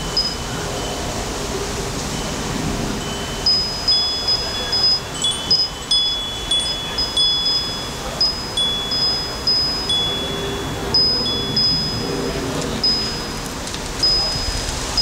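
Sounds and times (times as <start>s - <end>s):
steady hiss: 0.0s - 15.0s
wind chimes ringing: 0.0s - 15.0s.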